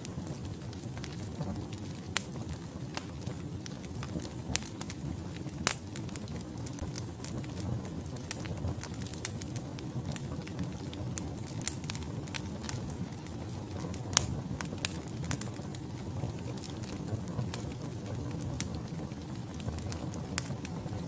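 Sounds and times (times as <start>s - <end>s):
crackles and pops from logs: 0.0s - 21.0s
low rush of flames: 0.0s - 21.0s.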